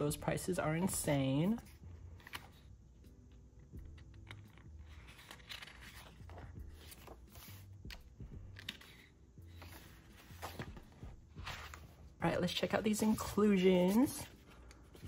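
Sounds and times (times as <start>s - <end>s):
paper pages rustling: 0.8s - 2.7s, 3.8s - 15.0s.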